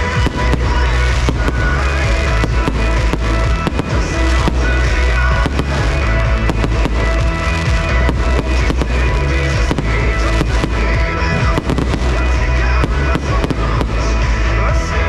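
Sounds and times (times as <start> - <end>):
fireworks bangs and crackles: 0.0 - 15.0
loud pop music with heavy bass: 0.0 - 15.0.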